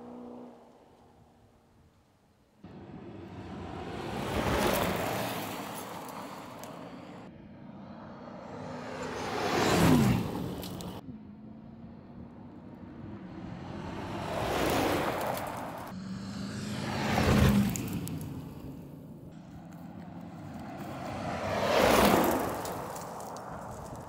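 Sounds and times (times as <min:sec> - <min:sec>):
car engine: 0:00.0 - 0:01.8, 0:02.6 - 0:24.0
car passing by: 0:02.6 - 0:11.0, 0:11.8 - 0:24.0.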